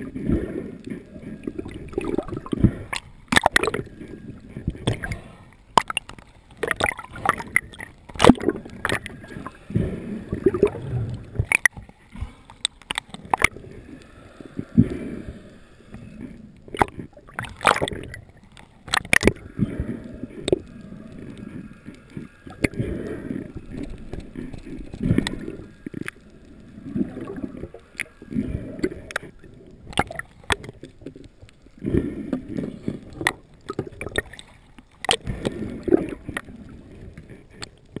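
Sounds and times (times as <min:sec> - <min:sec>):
muffled underwater water sloshing: 0:00.0 - 0:38.0.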